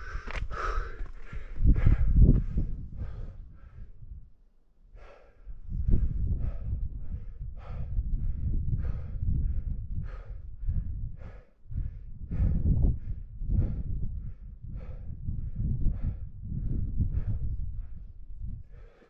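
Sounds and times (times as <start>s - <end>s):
heavy quick breathing: 0.0s - 4.0s, 4.9s - 16.3s
wind rumble on microphone: 0.0s - 4.4s, 5.0s - 19.0s.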